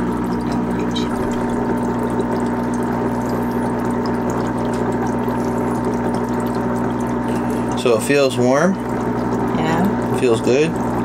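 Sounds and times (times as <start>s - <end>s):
foot spa motor humming: 0.0s - 11.0s
water churning in basin: 0.0s - 11.0s.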